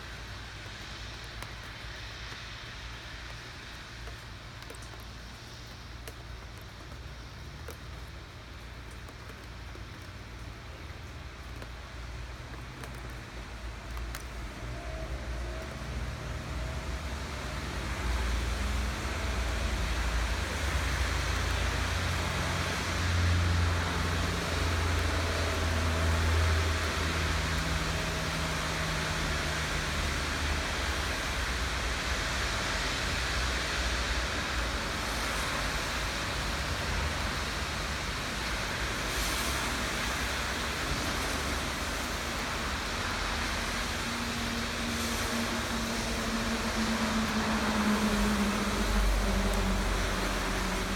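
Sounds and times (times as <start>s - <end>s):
passing road traffic: 0.0s - 4.2s, 10.7s - 50.9s
rain hissing: 0.0s - 50.9s.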